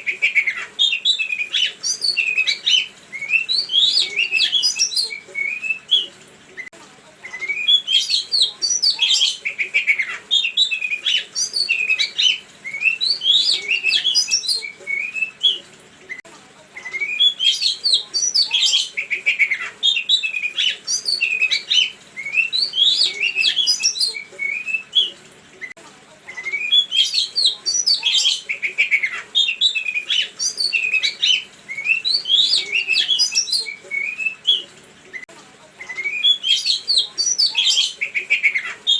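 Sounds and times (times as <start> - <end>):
songbird singing chirps and trills: 0.0 - 38.9.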